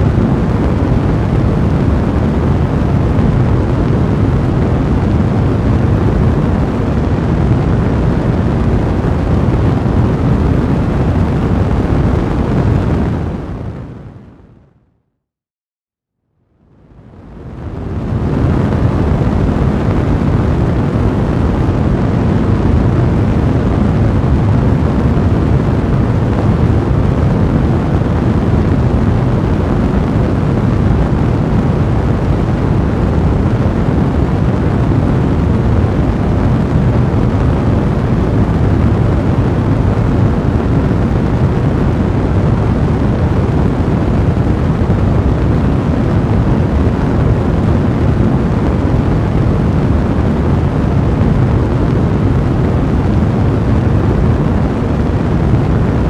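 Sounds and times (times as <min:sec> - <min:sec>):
fire burning low rumble: 0:00.0 - 0:14.5, 0:16.7 - 0:56.0.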